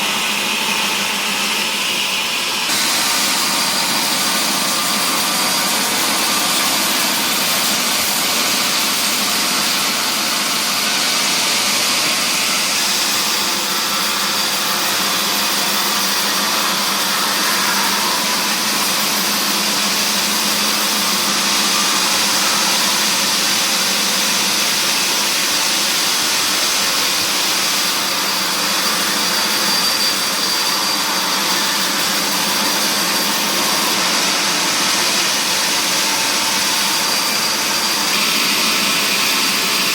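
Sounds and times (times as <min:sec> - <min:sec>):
woodworking machinery whirring: 0:00.0 - 0:39.9.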